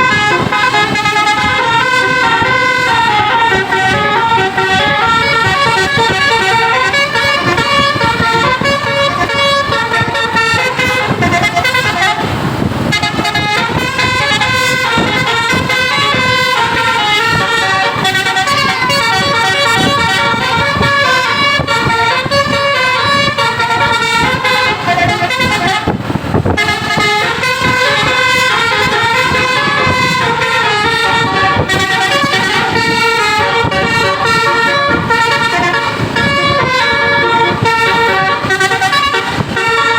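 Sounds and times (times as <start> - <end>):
bus air horns playing a melody: 0.0 - 39.9
rush of noise: 0.0 - 39.9.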